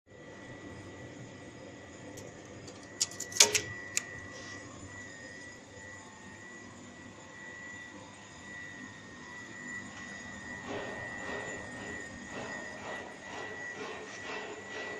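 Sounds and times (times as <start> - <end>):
plasma cutter whine: 0.2 - 14.9.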